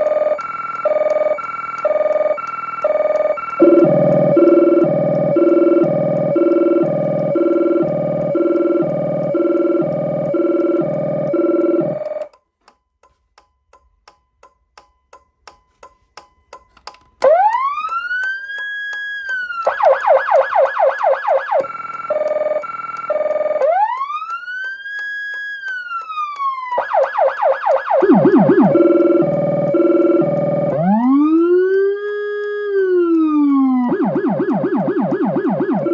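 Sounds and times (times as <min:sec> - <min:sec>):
low pulsing two-tone siren: 0:00.0 - 0:12.3, 0:17.2 - 0:35.9
siren wail and yelp: 0:00.0 - 0:12.3, 0:17.2 - 0:35.9.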